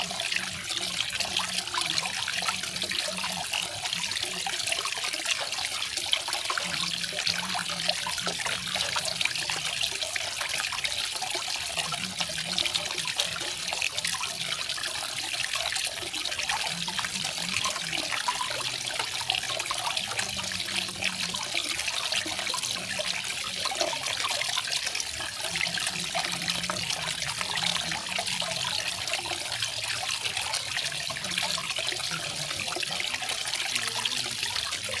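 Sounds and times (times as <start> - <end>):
garden waterfall splashing: 0.0 - 35.0.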